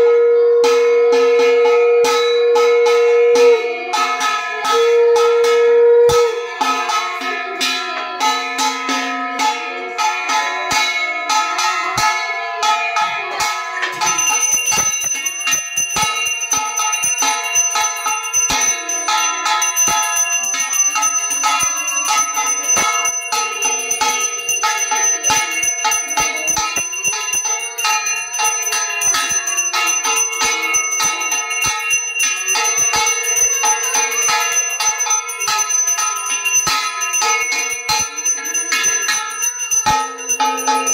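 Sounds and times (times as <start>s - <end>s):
hand bell ringing rapidly: 0.6s - 40.9s.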